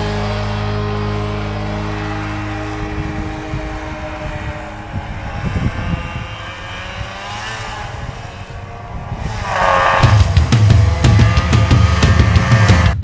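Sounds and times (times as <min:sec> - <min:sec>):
snowmobile engine under throttle: 0:00.0 - 0:13.0.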